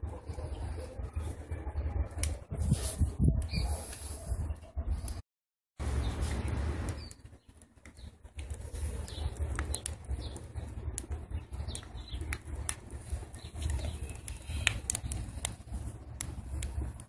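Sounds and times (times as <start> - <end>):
wood fire popping and crackling: 0.0 - 4.1, 5.8 - 17.0
steady low fire rumble: 0.0 - 5.2, 5.8 - 17.0.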